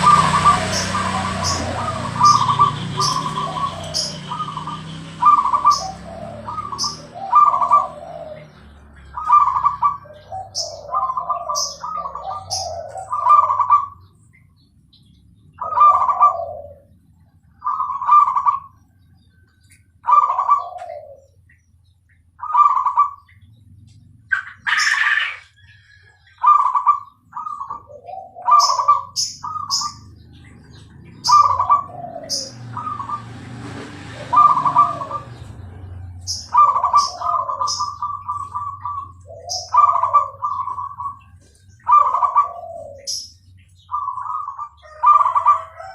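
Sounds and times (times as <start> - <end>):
dove cooing: 0.0 - 14.2, 15.6 - 19.2, 20.0 - 21.5, 22.4 - 23.6, 24.2 - 45.9.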